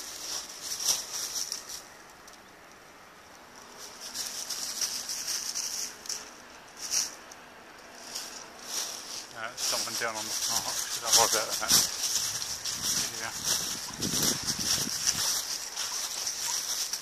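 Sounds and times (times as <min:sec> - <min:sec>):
footsteps crunching dry leaves: 0:00.0 - 0:02.1, 0:03.6 - 0:07.3, 0:07.9 - 0:17.0.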